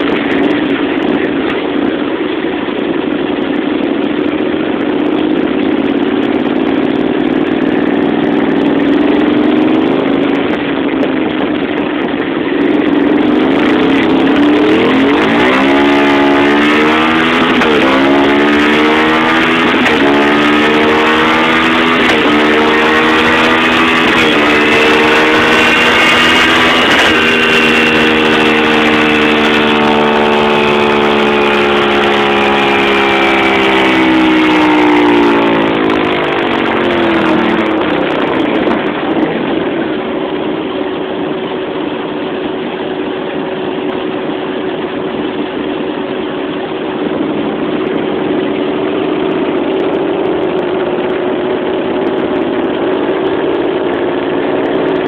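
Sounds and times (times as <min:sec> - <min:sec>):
motorcycle engine revving then idling: 0:00.0 - 0:55.0.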